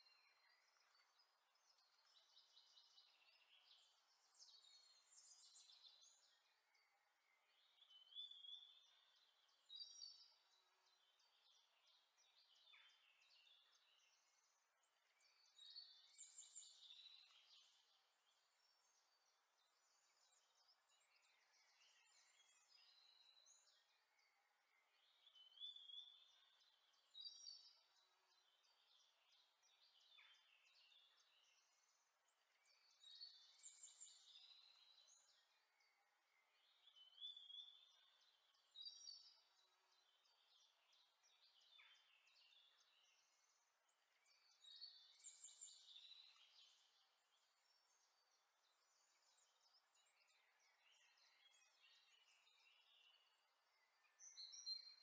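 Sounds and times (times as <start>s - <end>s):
faint high chirping calls: 0.0s - 55.0s.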